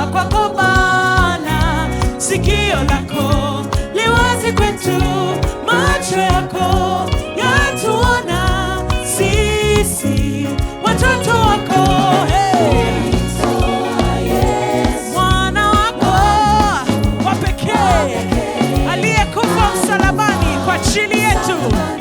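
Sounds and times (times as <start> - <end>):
band with bass and drums: 0.0 - 22.0
voices singing gospel song: 0.0 - 22.0.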